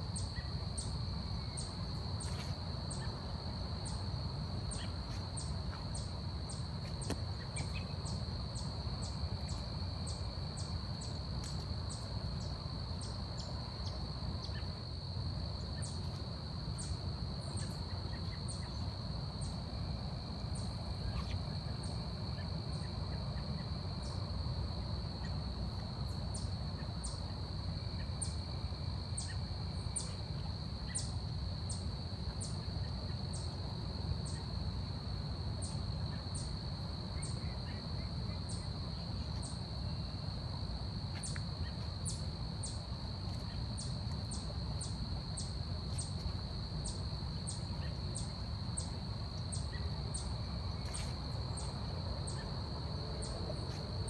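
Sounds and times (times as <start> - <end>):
high insect trill: 0.0 - 54.0.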